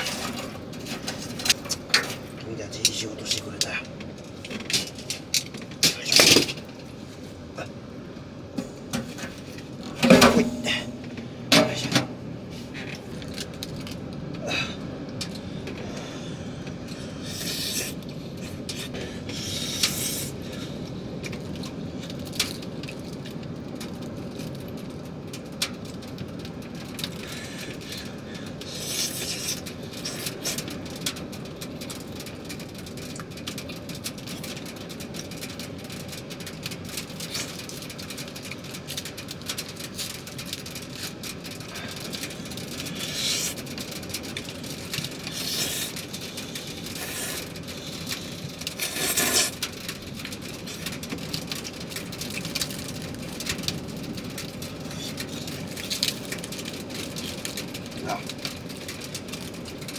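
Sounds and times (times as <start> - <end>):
rain on a vehicle roof: 0.0 - 59.9.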